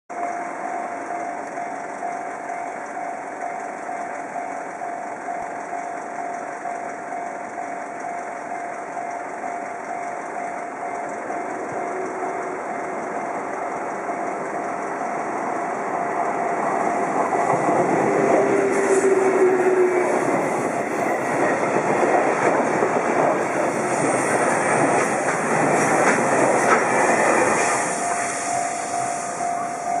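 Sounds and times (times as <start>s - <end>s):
level crossing warning bell: 0.1s - 30.0s
freight train passing: 0.3s - 30.0s
train wheels clacking: 0.4s - 30.0s.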